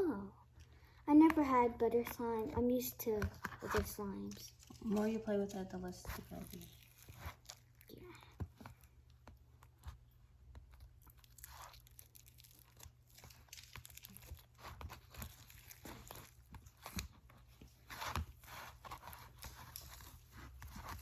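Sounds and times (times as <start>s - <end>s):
slime clicking and rustling: 1.2s - 21.0s.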